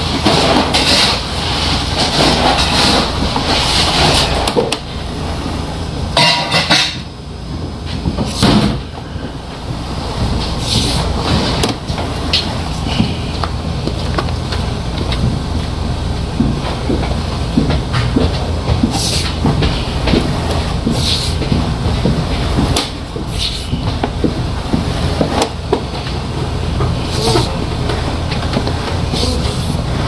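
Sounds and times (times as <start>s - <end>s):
drain-cleaning machine rumbling: 0.0s - 30.0s.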